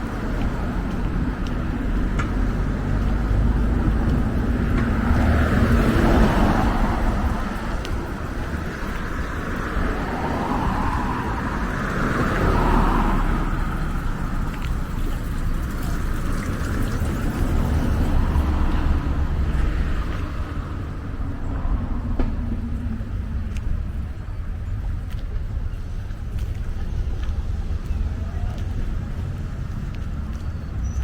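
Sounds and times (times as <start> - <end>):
cars passing: 0.0 - 31.0.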